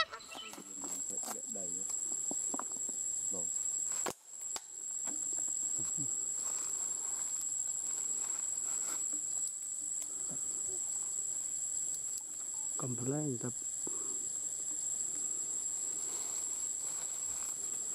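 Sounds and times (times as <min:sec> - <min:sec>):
high-pitched insect drone: 0:00.0 - 0:17.9.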